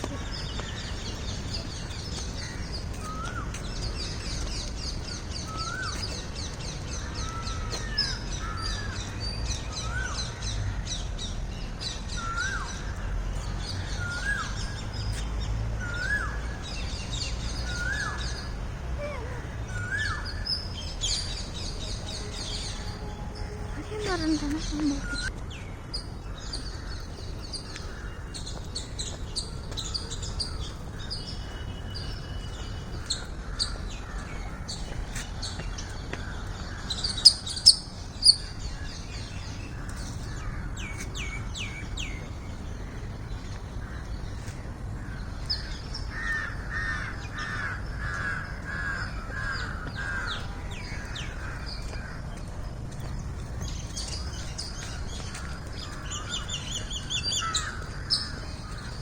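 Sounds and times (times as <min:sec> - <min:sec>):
small birds chirping: 0:00.0 - 0:46.6, 0:47.2 - 0:59.0.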